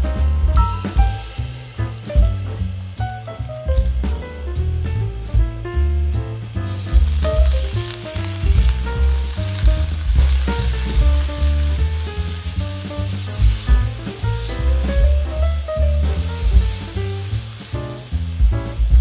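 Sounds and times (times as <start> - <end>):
background music with bass line: 0.0 - 19.0
garlic sizzling in hot oil: 0.2 - 4.0, 6.7 - 19.0.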